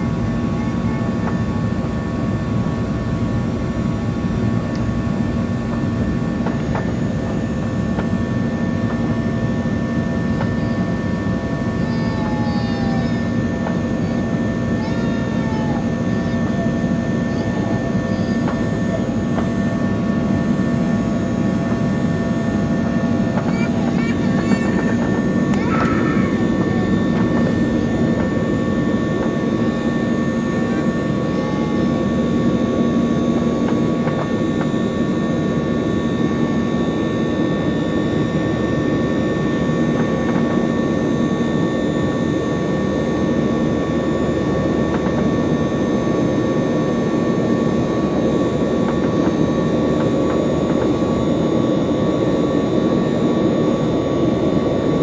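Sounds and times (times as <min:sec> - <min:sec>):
jet engine roar in cabin: 0:00.0 - 0:55.0
high whining engine tones: 0:04.7 - 0:55.0.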